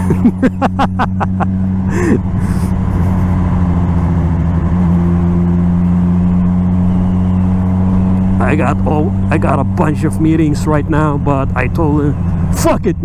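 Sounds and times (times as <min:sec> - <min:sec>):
road noise: 0:00.0 - 0:13.0
vehicle engine cruising: 0:00.0 - 0:13.0.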